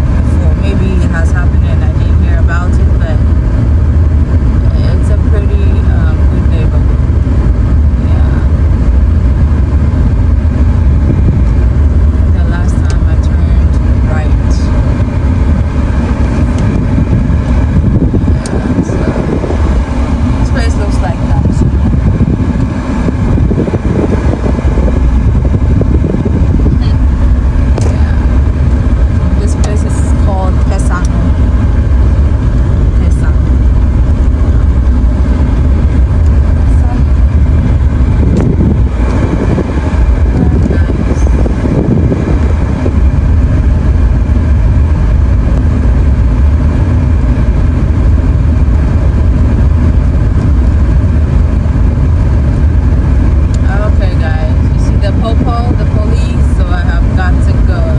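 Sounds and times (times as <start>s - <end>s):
road vehicle rumbling: 0.0s - 57.9s.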